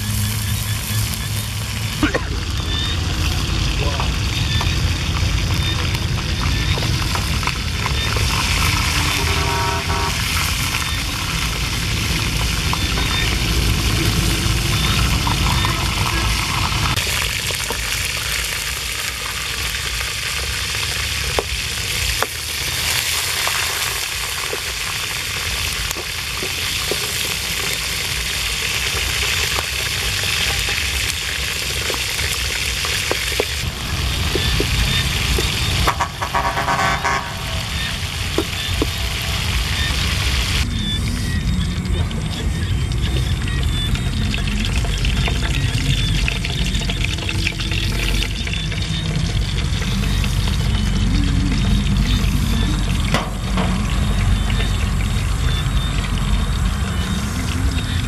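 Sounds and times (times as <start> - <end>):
oil sizzling in a wok: 0.0 - 58.0.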